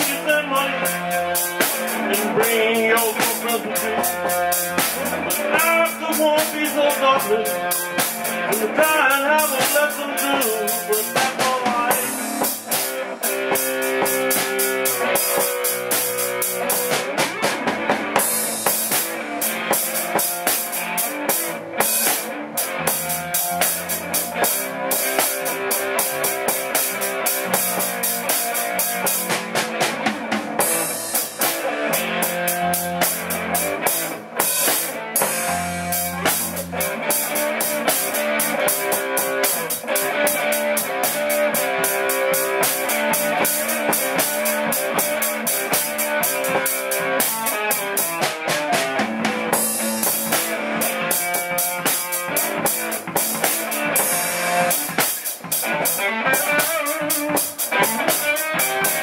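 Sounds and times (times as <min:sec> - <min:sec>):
live blues-rock band playing: 0:00.0 - 0:59.0.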